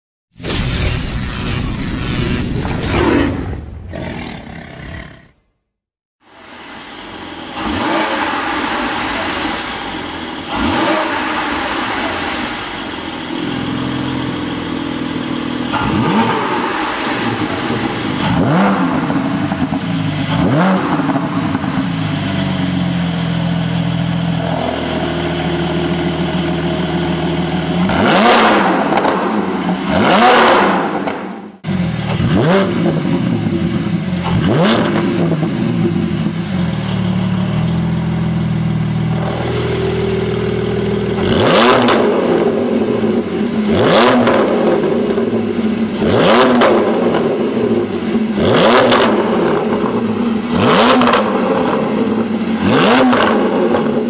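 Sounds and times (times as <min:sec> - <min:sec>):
car engine idling and revving: 0:06.2 - 0:54.0.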